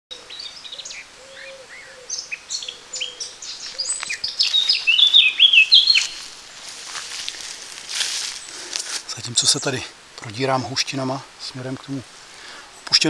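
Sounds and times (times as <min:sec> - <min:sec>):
songbirds singing: 0:00.1 - 0:13.0.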